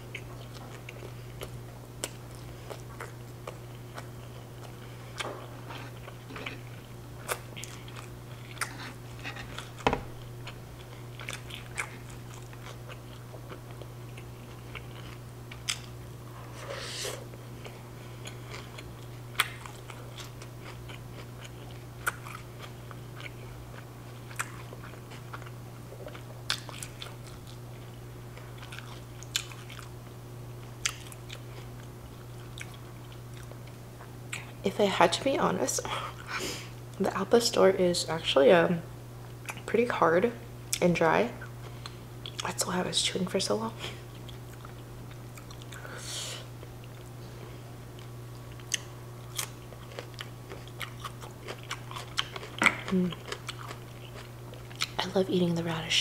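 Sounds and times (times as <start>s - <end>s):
person chewing food: 0.0s - 30.0s, 30.6s - 34.6s, 39.2s - 39.7s, 41.4s - 42.5s, 43.8s - 55.0s.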